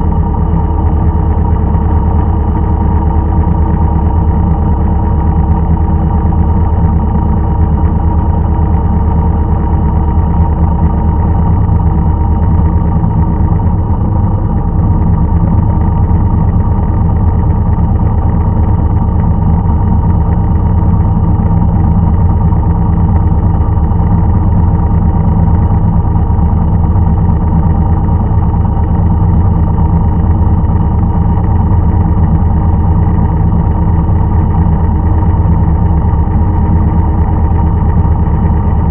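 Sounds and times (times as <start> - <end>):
farm machinery engine running: 0.0 - 38.9.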